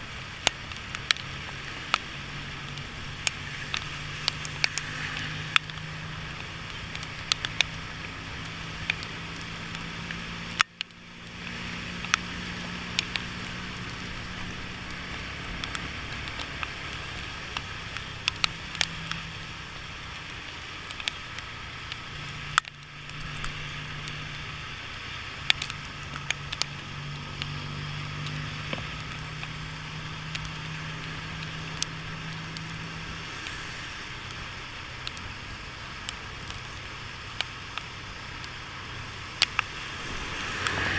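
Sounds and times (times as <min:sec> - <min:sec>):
motorcycle engine hum: 0:00.0 - 0:40.9
raindrops ticking on camera: 0:00.0 - 0:40.9
tyres hissing on wet road: 0:00.0 - 0:40.9
wind: 0:00.0 - 0:40.9.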